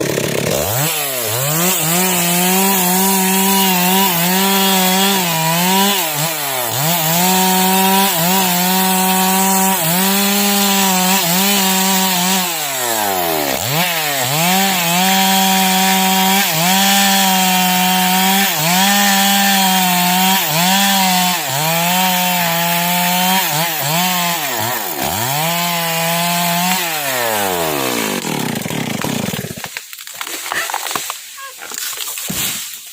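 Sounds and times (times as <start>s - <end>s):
chainsaw cutting tree: 0.0s - 31.1s.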